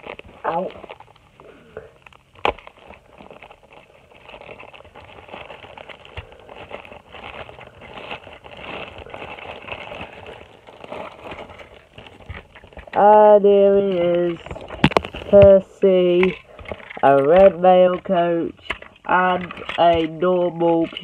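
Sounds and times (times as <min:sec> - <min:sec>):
packaging rustling and crackling: 0:00.0 - 0:21.0.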